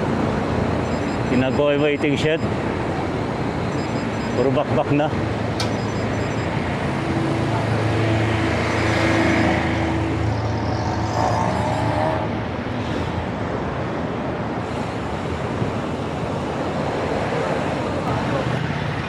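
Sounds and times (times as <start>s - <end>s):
tyre and traffic rush: 0.0s - 19.0s
vehicle engines passing: 0.0s - 19.0s.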